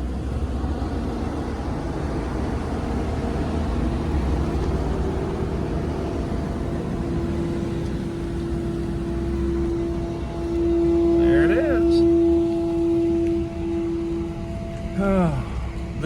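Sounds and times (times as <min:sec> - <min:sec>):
steady hum: 0:00.0 - 0:16.0
vehicle engine and road noise: 0:00.0 - 0:16.0.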